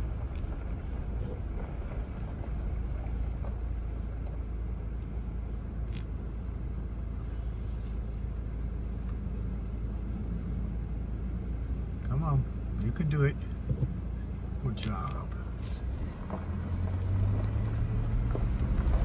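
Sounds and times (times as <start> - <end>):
engine rumble inside vehicle: 0.0 - 19.0.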